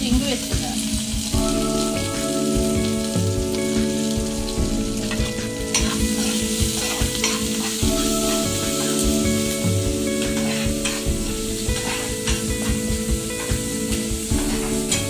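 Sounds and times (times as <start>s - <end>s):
onions sizzling in hot oil: 0.0s - 15.0s
held musical tones: 0.1s - 15.0s.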